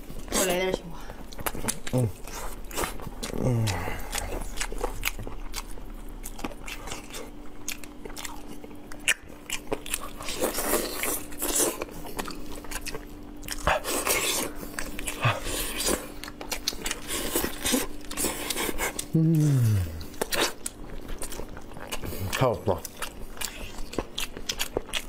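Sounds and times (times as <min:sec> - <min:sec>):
people chewing meat off bones: 0:00.0 - 0:25.0.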